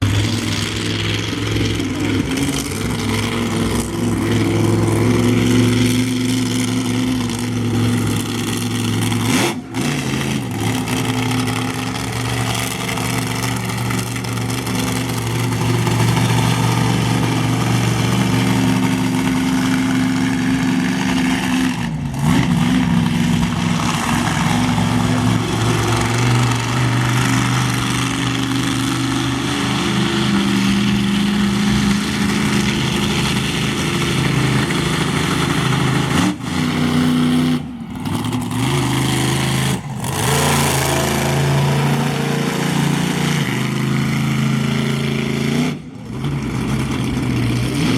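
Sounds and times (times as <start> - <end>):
truck engine low rumble: 0.0 - 47.9.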